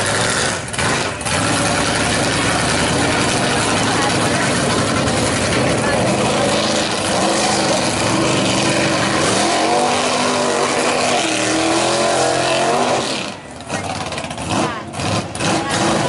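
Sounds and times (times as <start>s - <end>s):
truck engine revving high: 0.0s - 16.0s.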